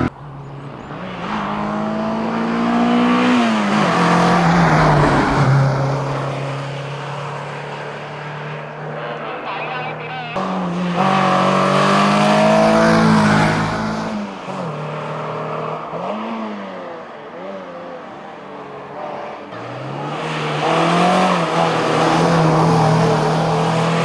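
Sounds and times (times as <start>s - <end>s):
car engine revving at full throttle: 0.0s - 24.0s.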